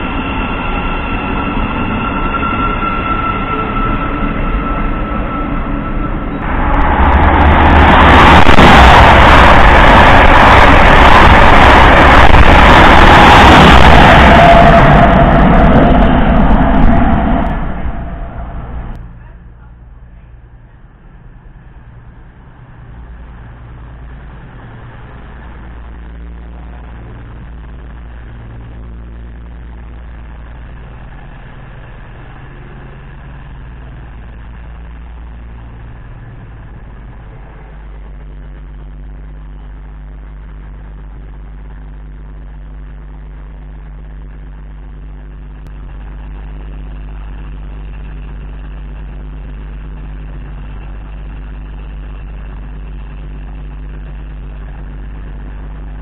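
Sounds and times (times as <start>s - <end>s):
diesel train engines churning: 0.0s - 56.0s
electric train low hum: 0.0s - 56.0s.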